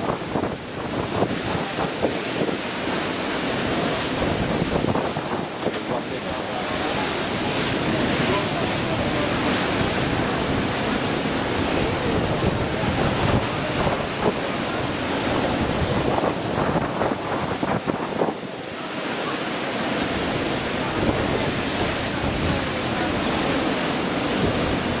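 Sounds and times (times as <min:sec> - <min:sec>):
wind buffeting microphone: 0:00.0 - 0:18.7, 0:20.0 - 0:25.0
water rushing along ship hull: 0:00.0 - 0:25.0.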